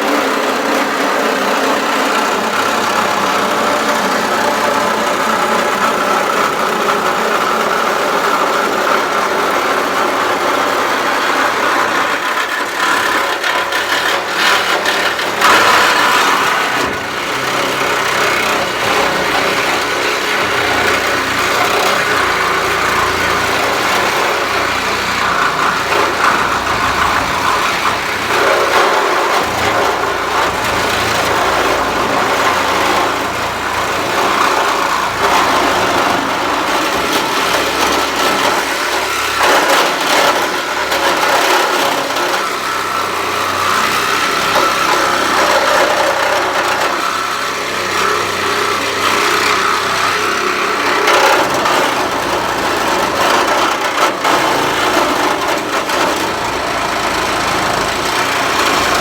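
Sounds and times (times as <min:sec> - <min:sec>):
power tool cutting sheet metal: 0:00.0 - 0:59.0.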